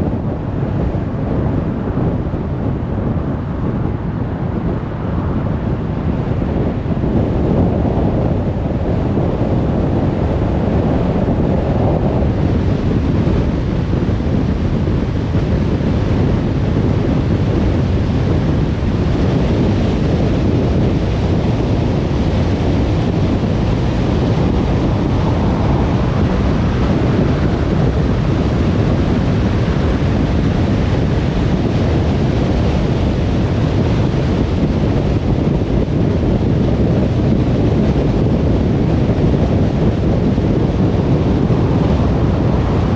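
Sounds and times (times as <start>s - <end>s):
wind rushing past: 0.0s - 42.9s.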